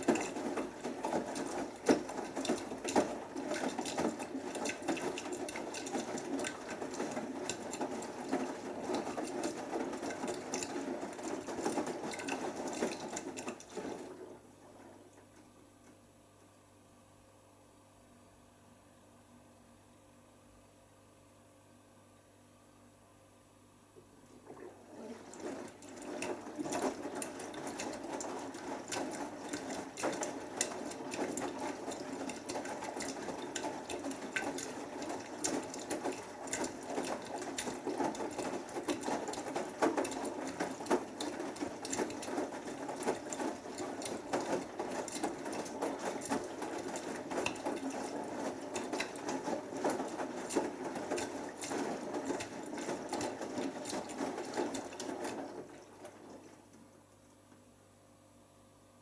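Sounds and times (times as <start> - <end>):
washing machine motor whir: 0.0 - 15.8, 24.1 - 57.1
wet laundry churning in drum: 0.0 - 16.0, 24.1 - 58.2.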